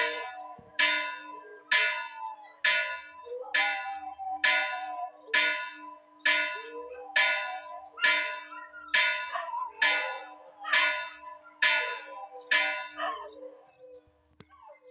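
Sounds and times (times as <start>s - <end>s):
church bell tolling: 0.0s - 13.2s.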